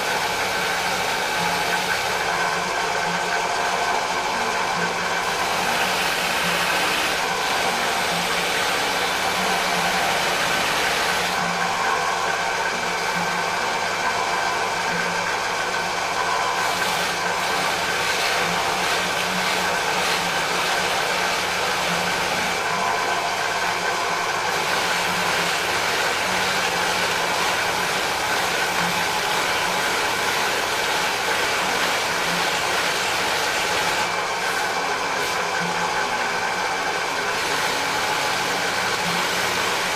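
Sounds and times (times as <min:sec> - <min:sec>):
drill press motor whine: 0:00.0 - 0:39.9.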